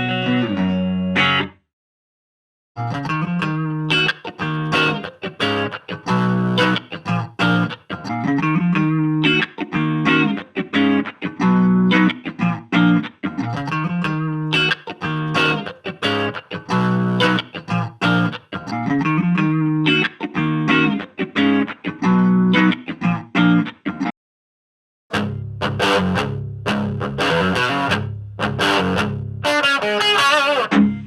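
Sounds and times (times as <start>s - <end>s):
electric guitar riff: 0.0s - 1.6s, 2.8s - 24.1s, 25.1s - 31.0s.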